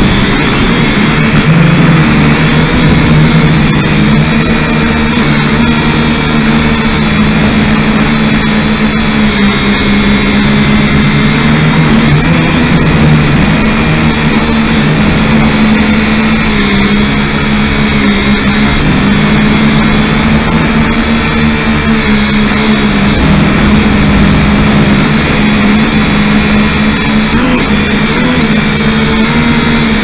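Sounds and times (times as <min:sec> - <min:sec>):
quadcopter motors buzzing: 0:00.0 - 0:30.0.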